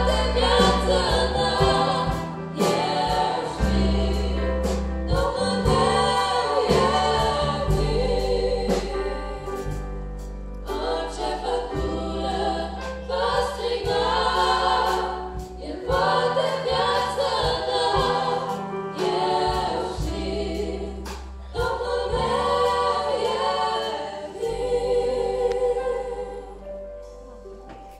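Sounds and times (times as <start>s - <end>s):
women singing in harmony: 0.0s - 9.7s, 10.6s - 26.8s
keyboard accompaniment: 0.0s - 27.9s.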